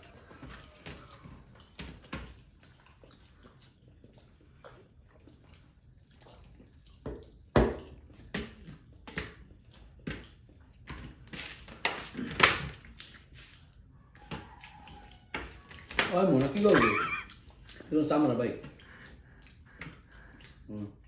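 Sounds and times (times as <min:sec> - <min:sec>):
wet squelches of eating by hand: 0:00.0 - 0:21.0.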